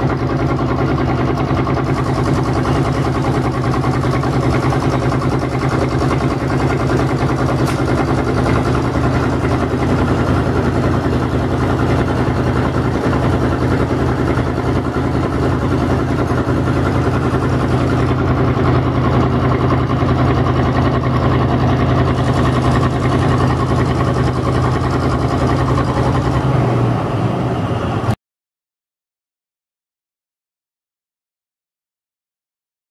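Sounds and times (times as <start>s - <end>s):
crane engine running: 0.0s - 28.2s.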